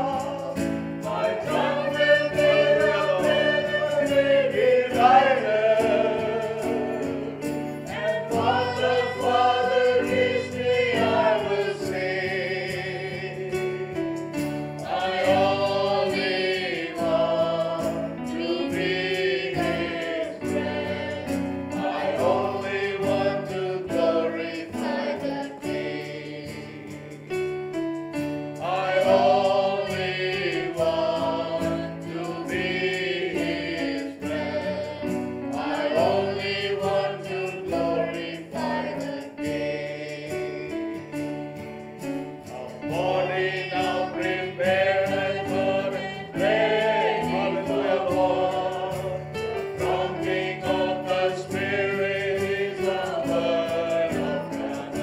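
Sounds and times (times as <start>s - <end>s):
choir singing worship song: 0.0s - 55.0s
instrumental accompaniment with beat: 0.0s - 55.0s.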